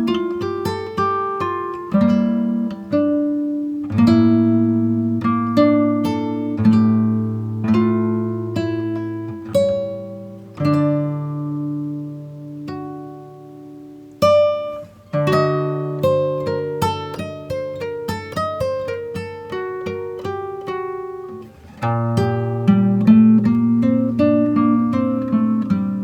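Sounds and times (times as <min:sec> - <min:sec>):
acoustic guitar melody and chords: 0:00.0 - 0:26.0.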